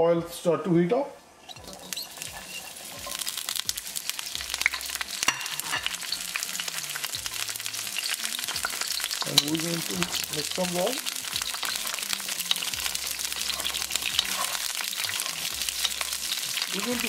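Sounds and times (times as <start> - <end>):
vegetables sizzling in hot oil: 1.4 - 17.0.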